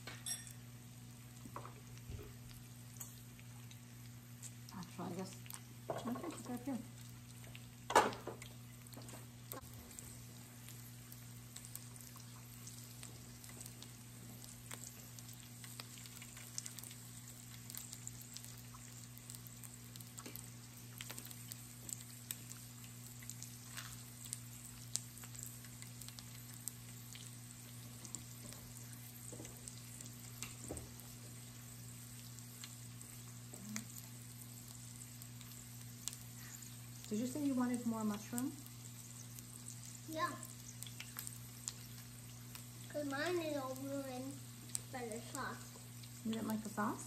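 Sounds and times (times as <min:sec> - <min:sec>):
low steady hum: 0:00.0 - 0:47.0
meat sizzling in fat: 0:00.0 - 0:47.0
small pops and crackles: 0:01.3 - 0:47.0.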